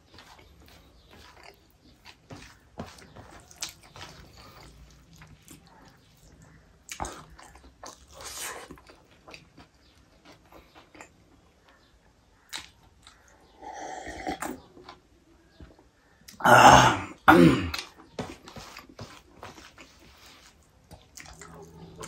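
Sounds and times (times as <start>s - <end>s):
wet chewing and lip smacking: 0.0s - 13.5s, 17.8s - 22.0s.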